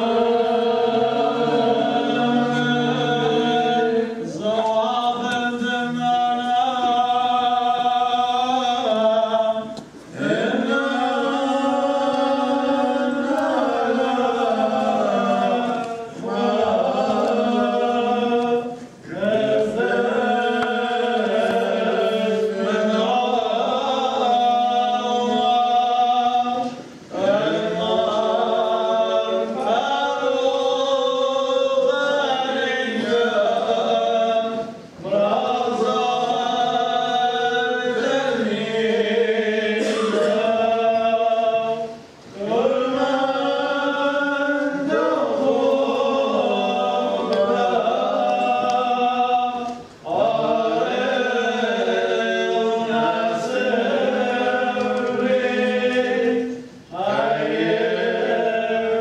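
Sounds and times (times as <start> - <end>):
choir chanting: 0.0 - 59.0.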